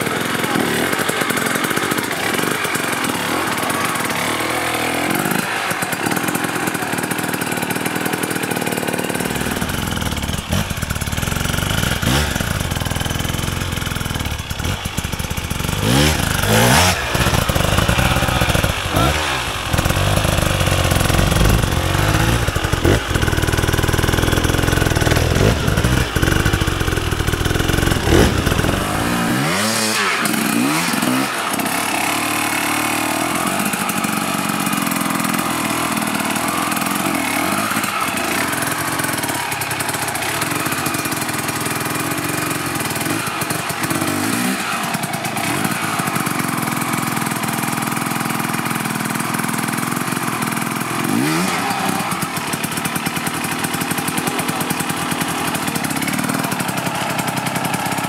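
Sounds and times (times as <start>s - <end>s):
motorcycle engines revving hard: 0.0s - 58.0s.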